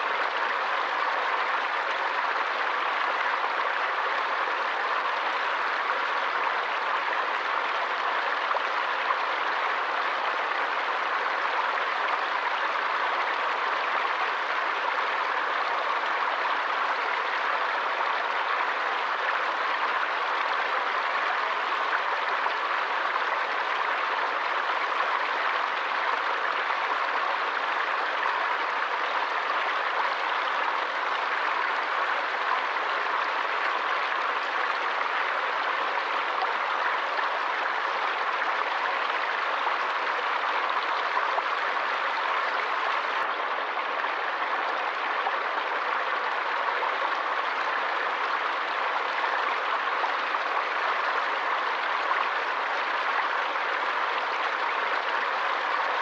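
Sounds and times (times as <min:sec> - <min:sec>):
stream water rushing and splashing: 0:00.0 - 0:56.0.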